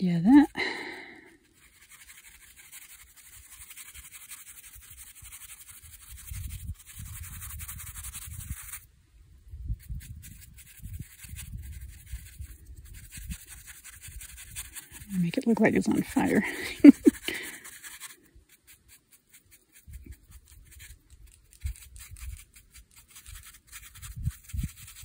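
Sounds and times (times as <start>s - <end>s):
brush scratching on paper: 0.4s - 8.9s, 9.7s - 25.0s.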